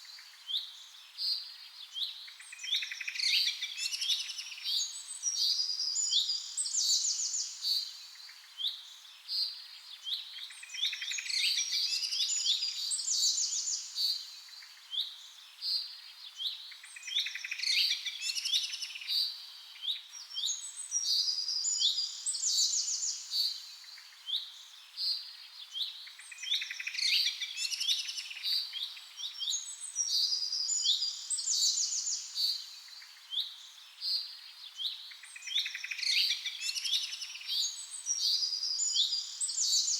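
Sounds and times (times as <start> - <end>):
small birds chirping and trilling: 0.1 - 39.9.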